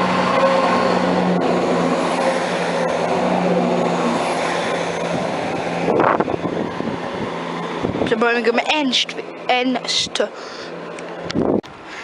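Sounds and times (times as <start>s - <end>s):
diesel engine hum: 0.0s - 12.0s
wheels rumbling on rails: 0.0s - 12.0s.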